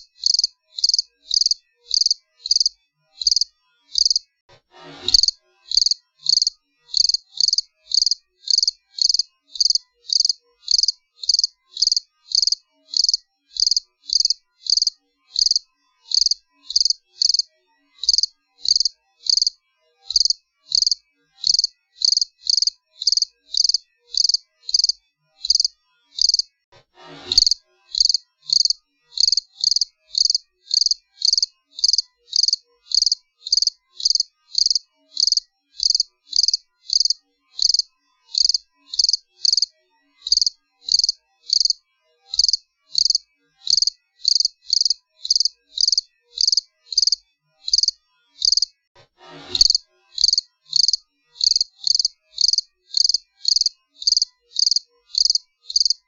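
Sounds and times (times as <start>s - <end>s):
cricket chirping: 0.0s - 4.2s, 5.2s - 26.5s, 27.4s - 39.7s, 40.3s - 48.7s, 49.7s - 56.0s.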